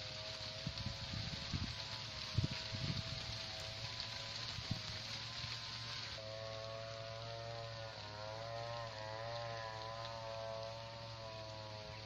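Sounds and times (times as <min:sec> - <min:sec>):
droning engine hum: 0:00.0 - 0:12.0.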